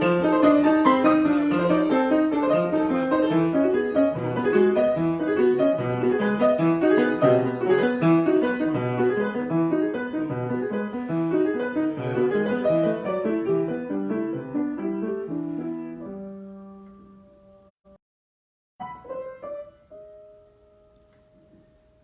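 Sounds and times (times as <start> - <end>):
solo piano improvisation: 0.0 - 17.7, 18.8 - 22.0.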